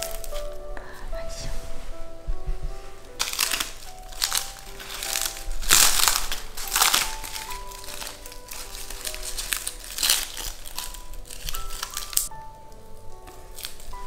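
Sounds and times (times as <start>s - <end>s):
charred paper crackling and crumpling: 0.0s - 0.6s, 3.0s - 14.0s
background music: 0.0s - 14.0s.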